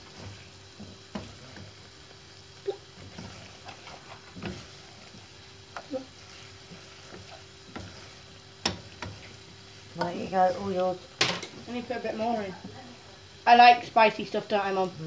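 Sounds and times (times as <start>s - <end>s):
food sizzling: 0.0s - 15.0s
steady hum: 0.0s - 15.0s.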